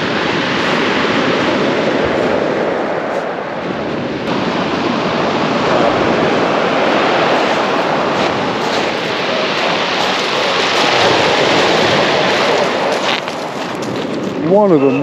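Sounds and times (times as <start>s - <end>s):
waves breaking on shingle beach: 0.0s - 14.8s.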